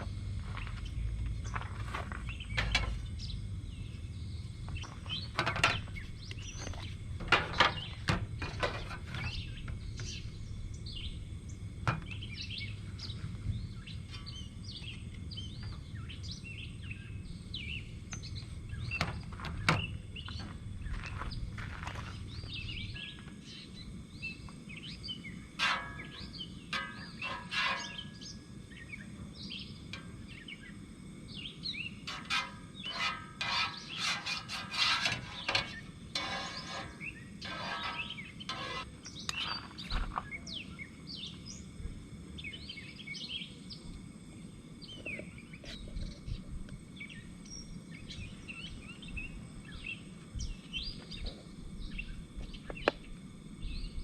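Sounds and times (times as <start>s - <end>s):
low outdoor hum: 0.0s - 54.0s
wild birds chirping and singing: 0.0s - 54.0s.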